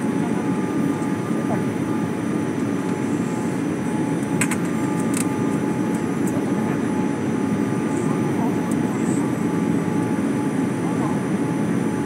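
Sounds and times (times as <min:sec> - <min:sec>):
airliner engines and rushing air: 0:00.0 - 0:12.0.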